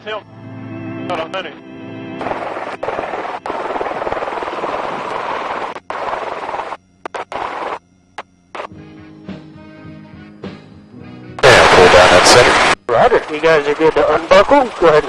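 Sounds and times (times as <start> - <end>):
helicopter noise: 0.0 - 9.6, 11.4 - 15.0.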